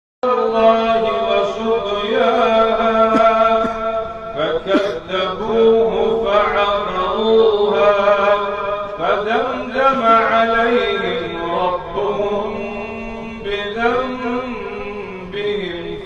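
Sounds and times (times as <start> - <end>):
man reciting melodically: 0.2 - 16.0.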